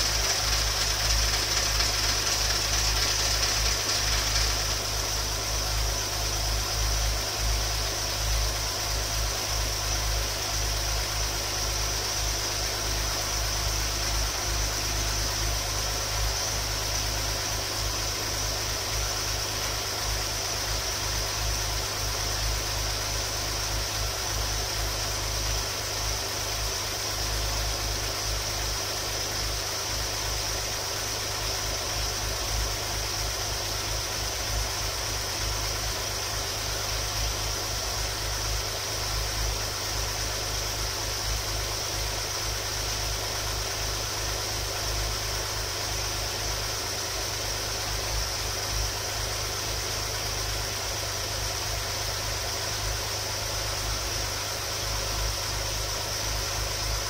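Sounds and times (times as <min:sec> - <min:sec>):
car engine idling: 0:00.0 - 0:57.0
high hiss: 0:00.0 - 0:57.0.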